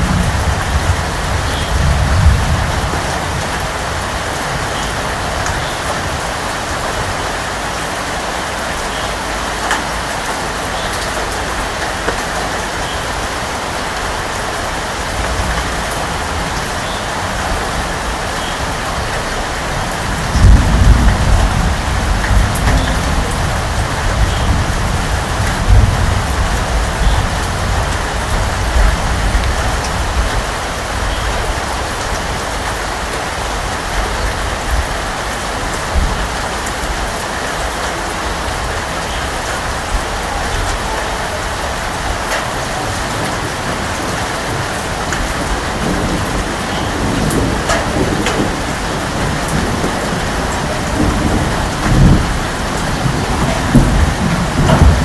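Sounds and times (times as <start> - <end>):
rain falling: 0.0 - 55.0
thunder rumbling: 0.0 - 55.0.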